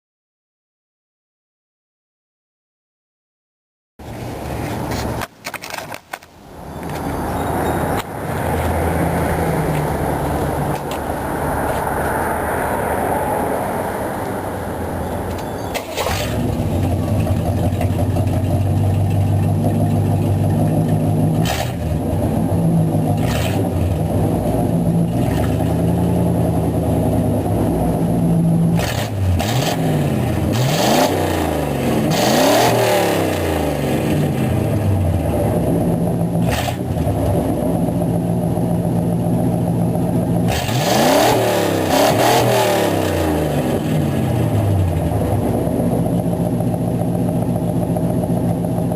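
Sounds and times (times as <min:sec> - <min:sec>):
engine exhaust idling and revving: 0:06.5 - 0:48.9.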